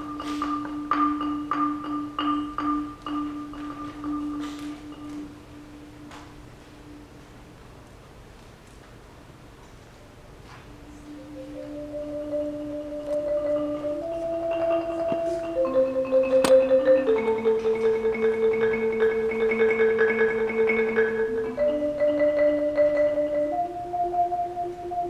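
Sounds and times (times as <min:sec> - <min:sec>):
marimba rolls: 0:00.0 - 0:07.3, 0:10.8 - 0:25.0.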